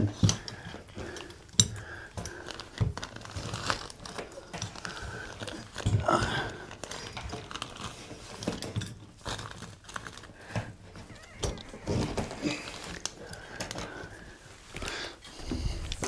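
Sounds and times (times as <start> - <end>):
rustling: 0.8 - 16.0.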